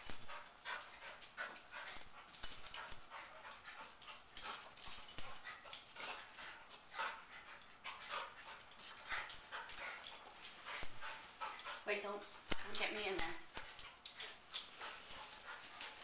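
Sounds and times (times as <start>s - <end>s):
claws clicking on tile floor: 0.0s - 16.0s
dogs play-wrestling noises: 0.0s - 16.0s.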